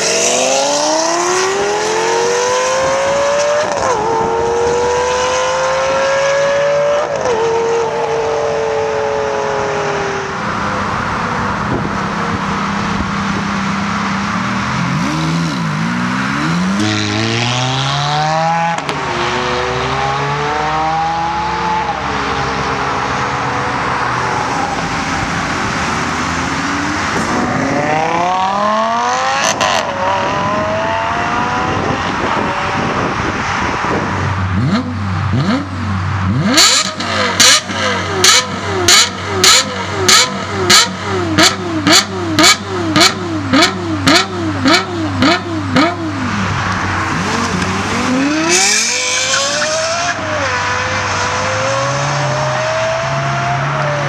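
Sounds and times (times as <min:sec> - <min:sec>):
sports cars accelerating hard: 0:00.0 - 0:54.0.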